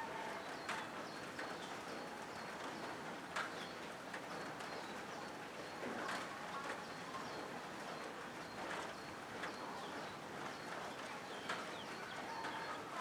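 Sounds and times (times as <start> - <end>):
rain on a metal roof: 0.0 - 13.0.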